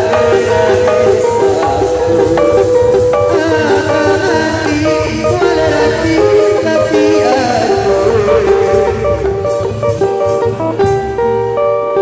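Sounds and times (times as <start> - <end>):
melody of held notes: 0.0 - 12.0
steady low beat: 0.0 - 12.0.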